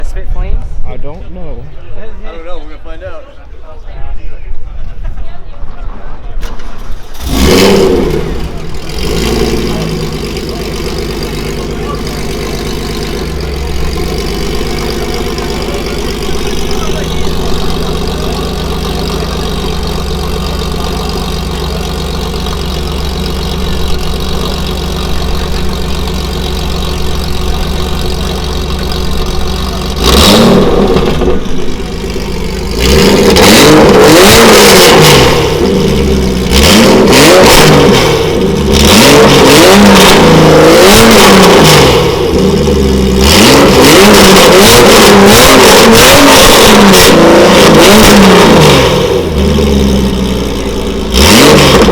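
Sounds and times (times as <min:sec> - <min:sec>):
car engine idling and revving: 0:06.4 - 0:51.9.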